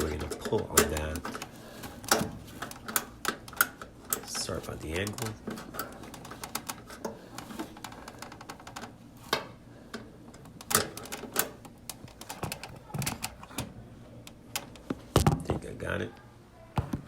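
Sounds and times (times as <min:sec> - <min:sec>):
hook clicking and scraping inside washer: 0:00.0 - 0:14.9.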